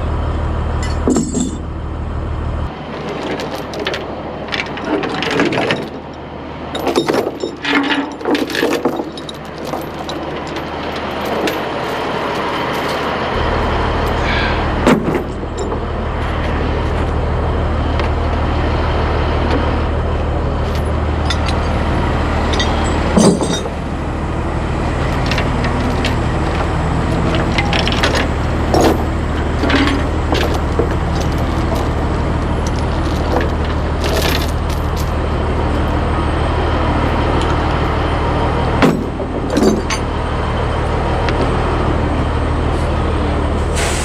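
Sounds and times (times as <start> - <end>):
diesel engine idling: 0.0 - 2.9, 10.3 - 44.0.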